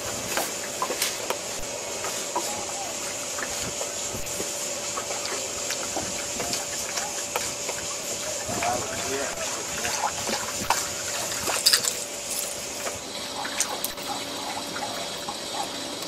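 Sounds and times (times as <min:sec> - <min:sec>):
faint hum: 0:00.0 - 0:16.0
small splashes: 0:00.0 - 0:16.0
steady hiss: 0:00.0 - 0:16.0
water lapping against boat hull: 0:00.0 - 0:16.0.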